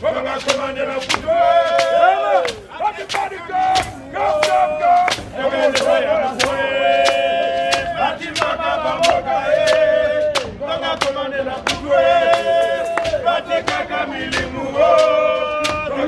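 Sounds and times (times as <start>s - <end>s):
group of voices chanting: 0.0s - 16.0s
sharp drum strikes: 0.4s - 16.0s.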